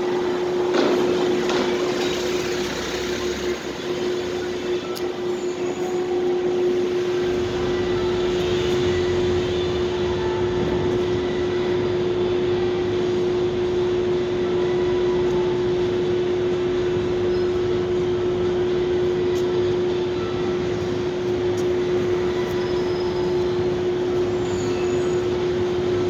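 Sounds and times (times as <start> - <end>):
machine hum with held tone: 0.0 - 26.0.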